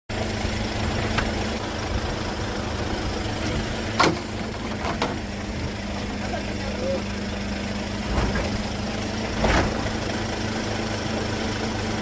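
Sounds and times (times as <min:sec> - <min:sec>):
vehicle engine idling: 0:00.1 - 0:12.0.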